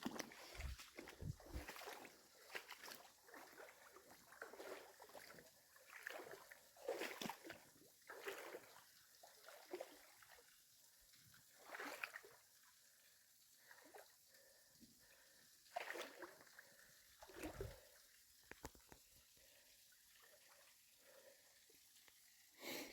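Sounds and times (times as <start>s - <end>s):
water splashing and sloshing: 0.0s - 22.5s.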